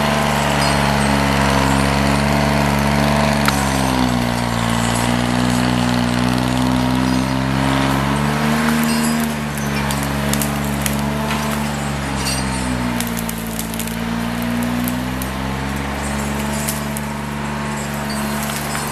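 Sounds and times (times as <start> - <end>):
branches cracking and snapping: 0.0 - 18.9
diesel engine running: 0.0 - 18.9
log dragged through brush: 0.0 - 18.9.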